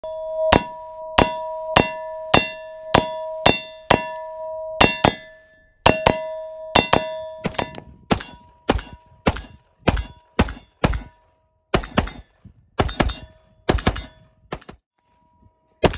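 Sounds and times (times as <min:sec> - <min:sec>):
bullets clanging on steel plate: 0:00.5 - 0:14.8.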